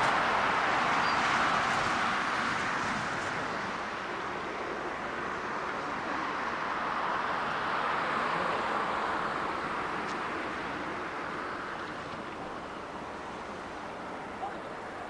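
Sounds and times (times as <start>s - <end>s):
jet engines passing by: 0.0s - 15.0s.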